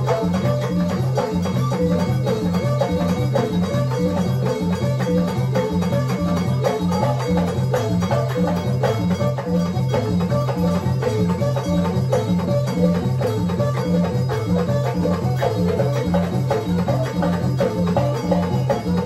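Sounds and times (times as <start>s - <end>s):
banjo: 0.0s - 19.0s
drums playing a steady beat: 0.0s - 19.0s.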